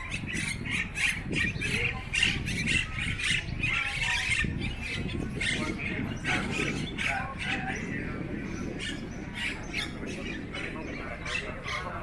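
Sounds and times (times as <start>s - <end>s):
birds squawking and chattering: 0.0s - 12.0s.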